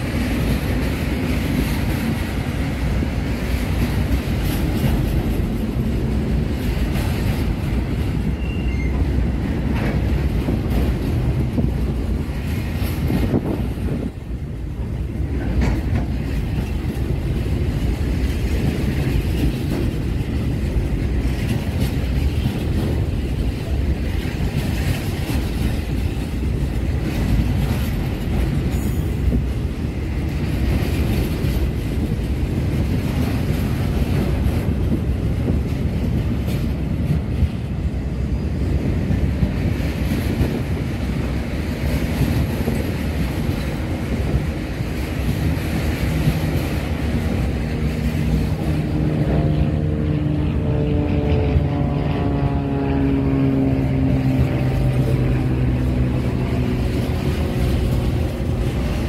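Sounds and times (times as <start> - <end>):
clatter over the track: 0.0 - 59.0
train wheels rumbling on rails: 0.0 - 59.0.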